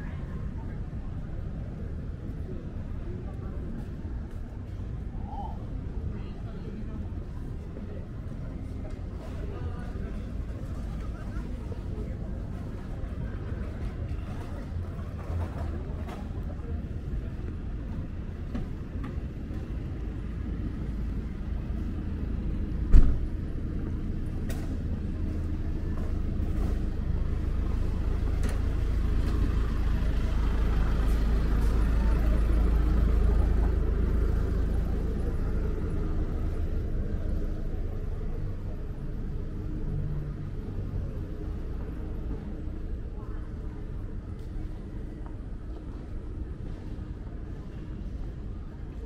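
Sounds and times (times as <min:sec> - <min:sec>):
road noise: 0:00.0 - 0:49.0
vehicle engine rumble: 0:00.0 - 0:49.0.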